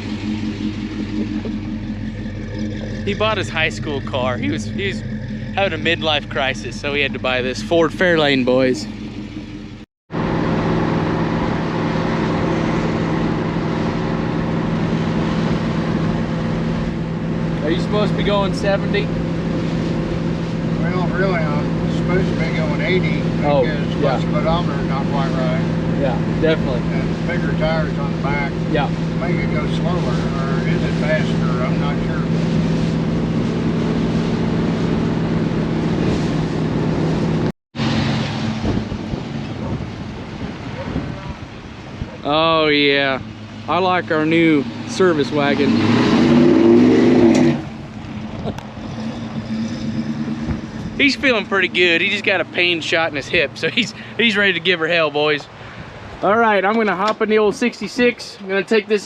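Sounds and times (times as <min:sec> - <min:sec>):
car engine hum: 0:00.0 - 0:59.0
road and wind noise: 0:00.0 - 0:59.0.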